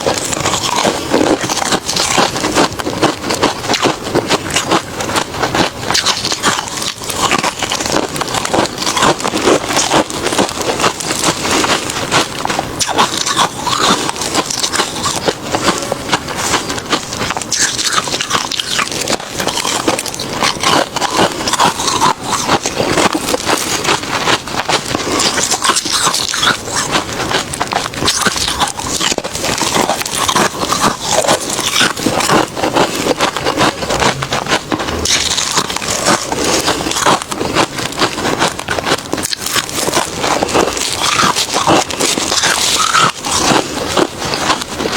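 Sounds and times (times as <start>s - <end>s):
person chewing crushed ice: 0.0s - 44.9s.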